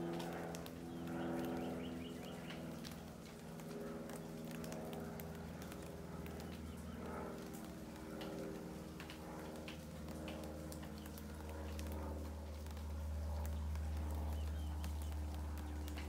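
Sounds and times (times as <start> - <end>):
light ticks: 0.1 - 16.0.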